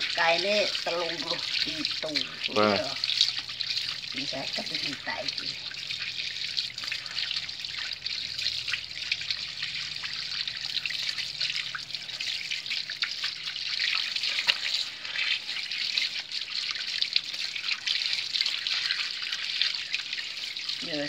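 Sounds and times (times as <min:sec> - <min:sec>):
running water splashing: 0:00.0 - 0:21.0.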